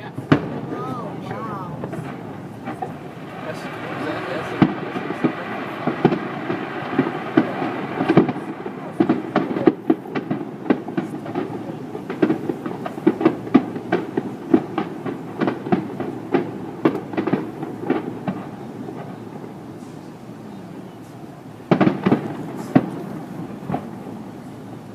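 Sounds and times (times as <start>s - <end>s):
fireworks bangs and cracks: 0.0s - 24.9s.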